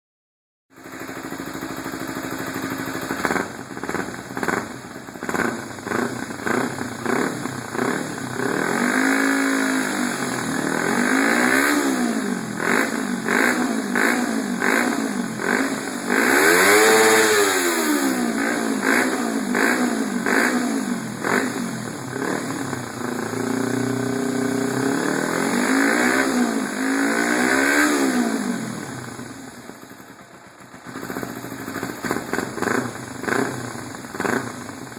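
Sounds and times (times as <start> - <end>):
motorcycle engine revving: 0.7 - 34.9.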